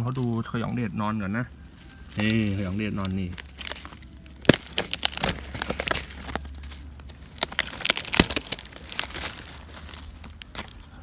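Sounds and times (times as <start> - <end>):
dry leaves crackling: 0.0 - 11.0.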